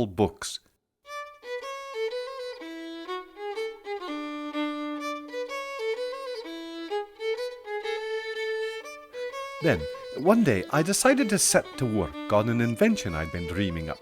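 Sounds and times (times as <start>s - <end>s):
solo fiddle slow melody: 1.1s - 14.0s.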